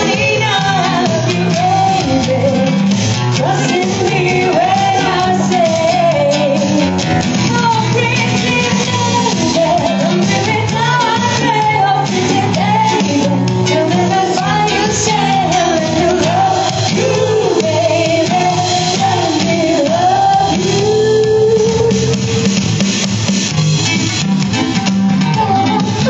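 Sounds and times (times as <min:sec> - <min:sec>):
person singing: 0:00.0 - 0:22.9, 0:25.1 - 0:26.0
band backing: 0:00.0 - 0:26.0
guitar: 0:00.0 - 0:26.0.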